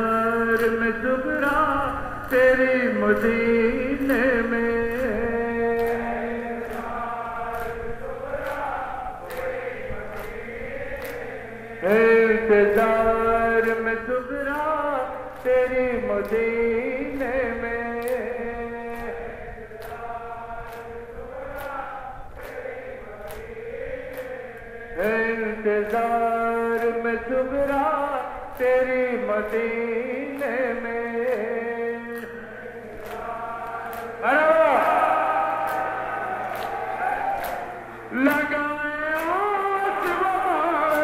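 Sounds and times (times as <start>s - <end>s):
man chanting into a microphone: 0.0s - 36.0s, 38.0s - 41.0s.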